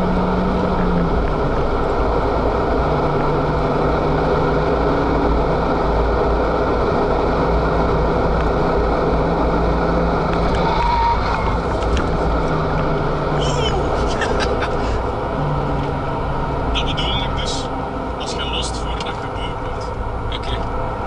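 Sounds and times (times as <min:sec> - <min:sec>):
car engine running hard: 0:00.0 - 0:21.0
road and wind noise: 0:00.0 - 0:21.0.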